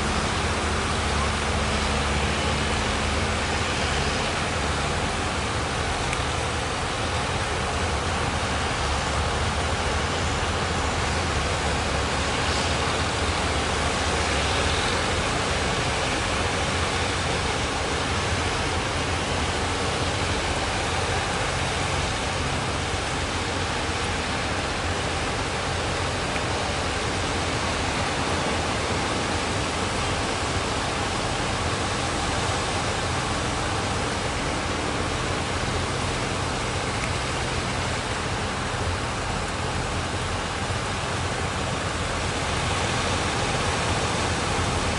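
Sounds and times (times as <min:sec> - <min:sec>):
sea surf breaking on beach: 0:00.0 - 0:44.9.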